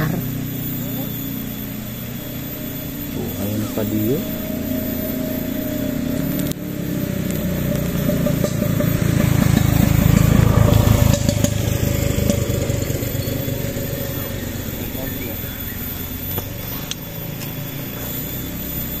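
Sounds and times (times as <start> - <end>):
motorcycle engine passing by: 0.0 - 19.0.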